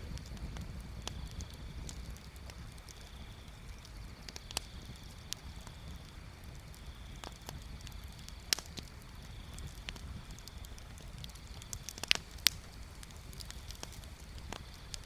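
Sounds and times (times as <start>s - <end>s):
bonfire crackling and popping: 0.0s - 15.0s
low steady rumble: 0.0s - 15.0s.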